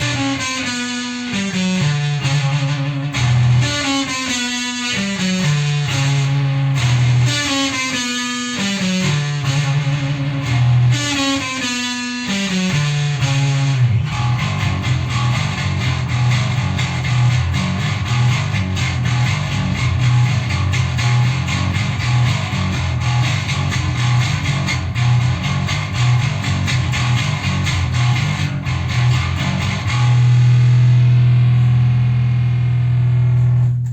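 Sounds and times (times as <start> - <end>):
distorted guitar passage: 0.0 - 33.9
electric guitar riff with bass: 0.0 - 33.9.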